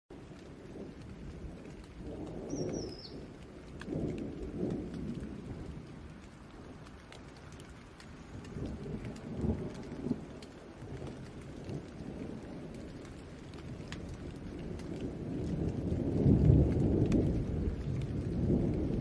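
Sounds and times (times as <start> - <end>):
rain pattering: 0.1 - 19.0
thunder rumbling: 0.1 - 19.0.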